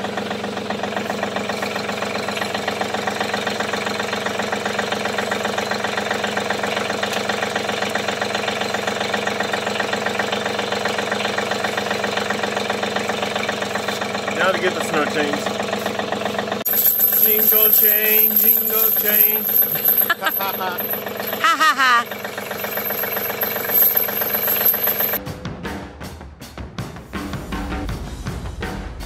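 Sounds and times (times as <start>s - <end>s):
tractor diesel engine running: 0.0s - 25.2s.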